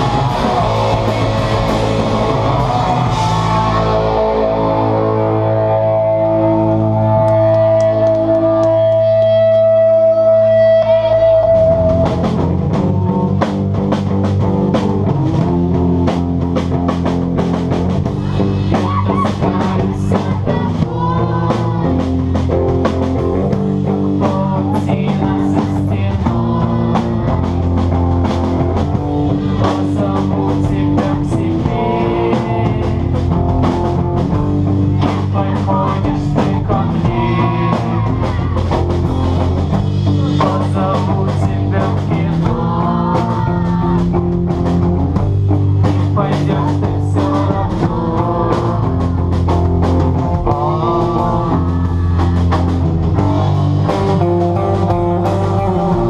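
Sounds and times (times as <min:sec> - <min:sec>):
drum kit with cymbals and snare: 0:00.0 - 0:05.7, 0:11.0 - 0:56.0
rock band playing: 0:00.0 - 0:56.0.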